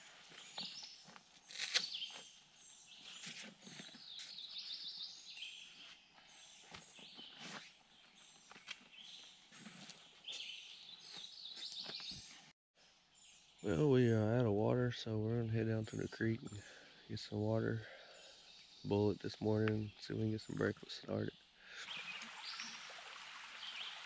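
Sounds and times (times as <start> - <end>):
birds singing and chirping: 0.0 - 12.5, 13.1 - 22.9.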